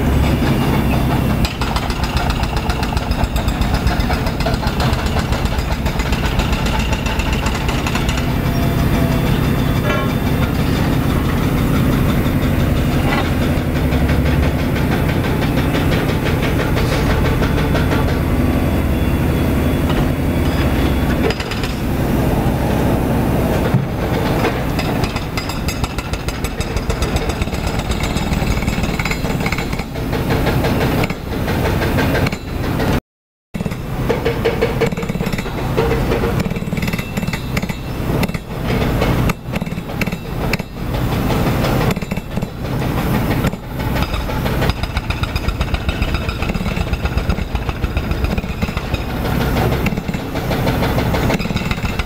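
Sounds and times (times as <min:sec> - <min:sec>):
hydraulic breaker hammering concrete: 0:00.0 - 0:19.1, 0:23.5 - 0:33.0, 0:33.6 - 0:52.0
diesel excavator engines running: 0:00.0 - 0:33.0, 0:33.6 - 0:52.0.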